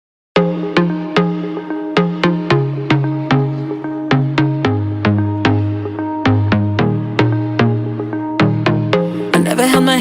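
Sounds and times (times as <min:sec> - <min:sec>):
instrumental pop music: 0:00.4 - 0:10.0.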